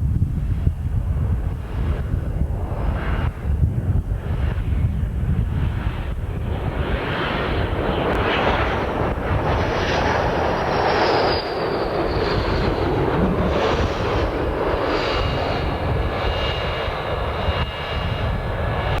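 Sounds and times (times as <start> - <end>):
jet engine roar with high whine: 0.0 - 19.0.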